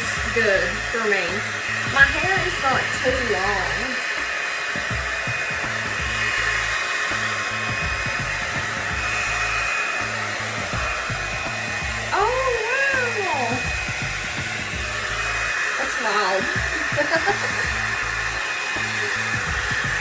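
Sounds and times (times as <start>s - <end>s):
hot air brush fan whirring: 0.0s - 20.0s.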